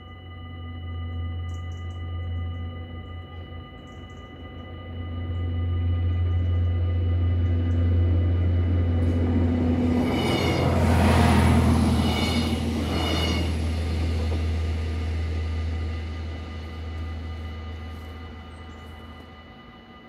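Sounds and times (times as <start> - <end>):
low train engine drone: 0.0 - 20.0
train wheel and rail noise: 3.3 - 20.0.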